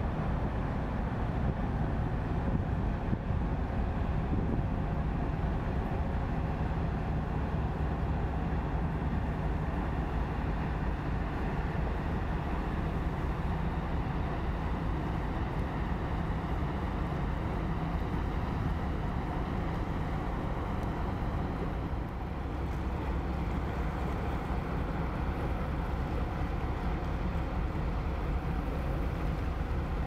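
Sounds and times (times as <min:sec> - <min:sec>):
boat diesel engine droning: 0:00.0 - 0:30.0.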